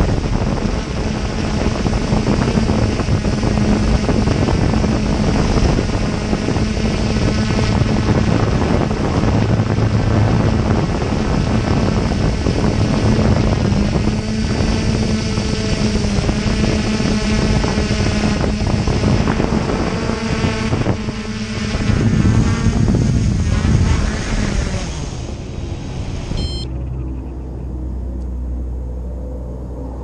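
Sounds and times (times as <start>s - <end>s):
wind rush on microphone: 0.0s - 27.7s
drone motors humming: 0.0s - 30.0s.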